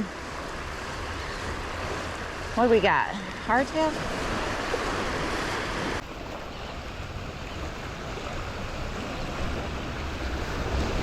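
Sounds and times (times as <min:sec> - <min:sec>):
small waves washing onto beach: 0:00.0 - 0:11.0
wind: 0:00.0 - 0:11.0.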